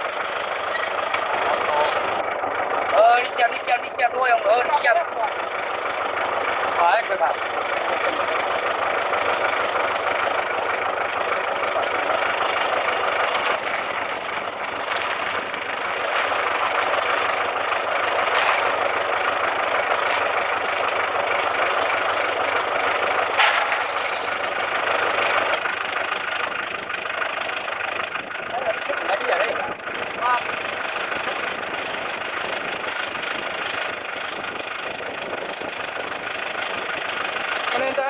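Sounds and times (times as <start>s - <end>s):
farm machinery engine running: 0.0s - 38.0s.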